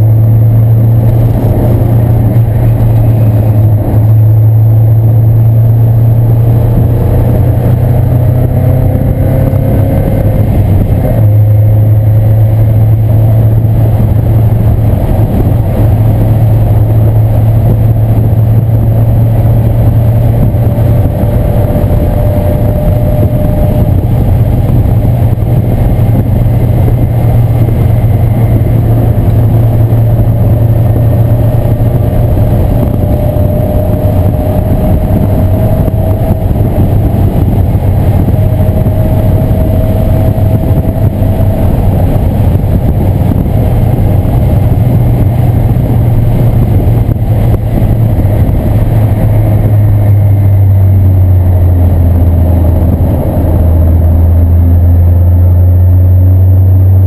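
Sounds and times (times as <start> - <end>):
car engine running hard: 0.0 - 57.0
thin rising engine tone: 0.0 - 57.0.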